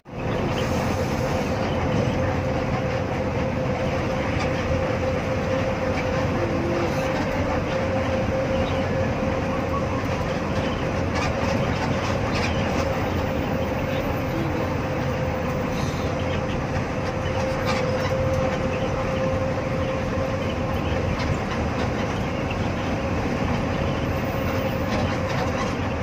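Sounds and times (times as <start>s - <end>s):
engine and tyres rumbling: 0.0s - 26.0s
constant whine: 0.1s - 26.0s.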